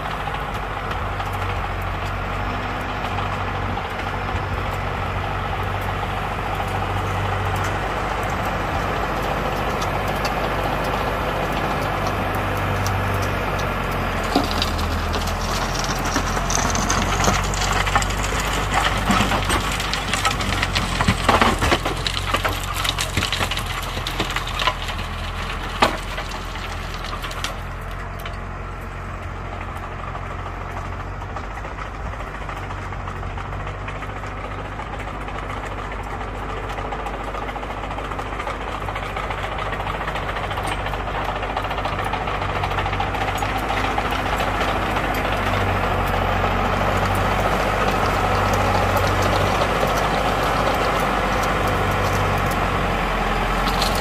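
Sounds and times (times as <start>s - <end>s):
rotary tiller clattering in soil: 0.0s - 54.0s
tractor diesel engine running: 0.0s - 54.0s.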